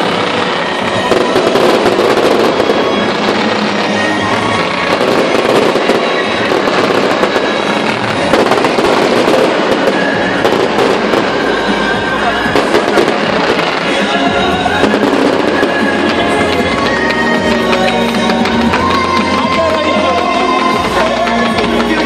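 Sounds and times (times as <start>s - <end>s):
fireworks crackling and popping: 0.0s - 22.0s
music playing: 0.0s - 22.0s.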